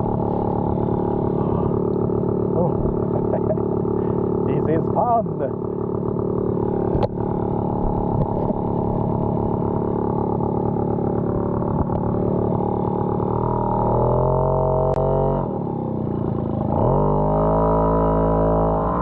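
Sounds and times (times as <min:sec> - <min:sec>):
moped engine running: 0:00.0 - 0:19.0.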